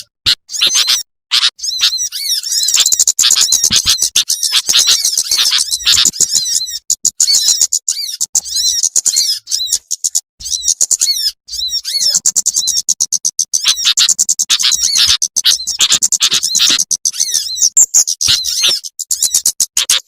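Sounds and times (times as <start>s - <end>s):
small birds chirping and twittering: 0.0s - 20.0s.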